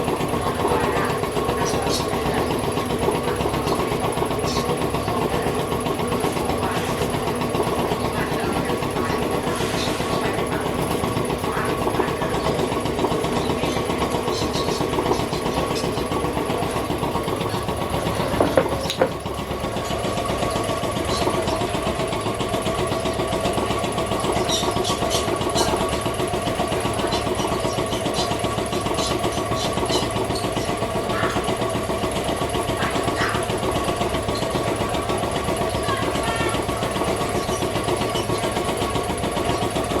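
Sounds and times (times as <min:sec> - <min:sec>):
motor running: 0:00.0 - 0:40.0.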